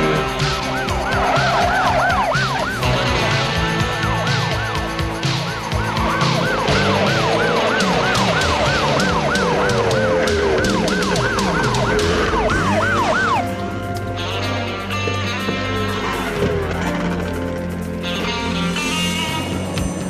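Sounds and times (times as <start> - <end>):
siren warbling: 0.0 - 18.9
action music with drums and bass: 0.0 - 20.0.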